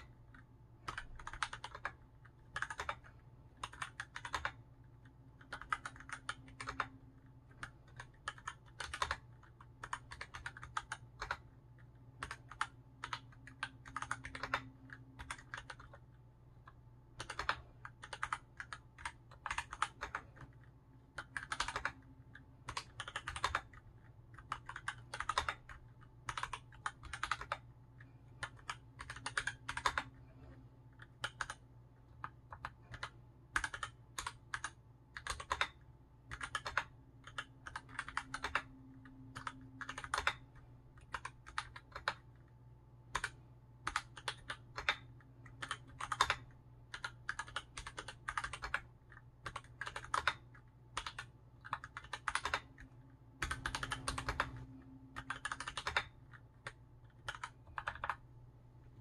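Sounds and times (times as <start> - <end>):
mechanical keyboard typing: 0.0 - 42.5, 43.1 - 58.3
faint low hum: 0.0 - 59.0.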